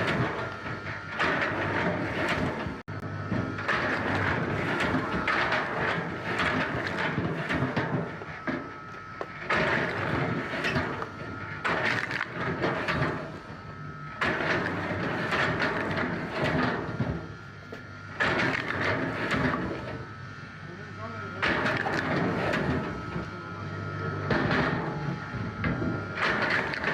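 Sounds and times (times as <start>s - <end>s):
wood processing machinery hum: 0.0s - 26.9s.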